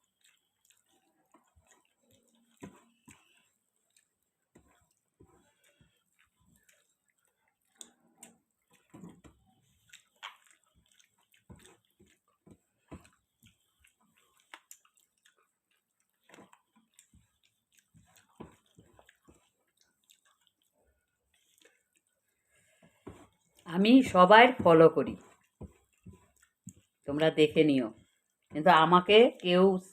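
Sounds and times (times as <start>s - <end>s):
person chewing food: 0.0s - 23.7s, 25.1s - 27.1s, 28.0s - 28.6s.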